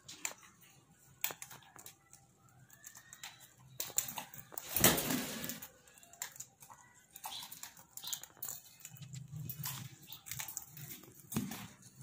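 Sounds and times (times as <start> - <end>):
parakeets clicking and scratching: 0.0 - 12.0.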